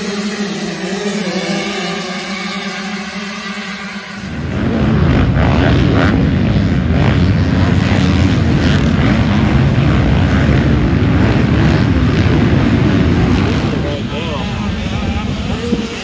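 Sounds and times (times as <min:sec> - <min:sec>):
motocross bikes racing: 0:00.0 - 0:16.0.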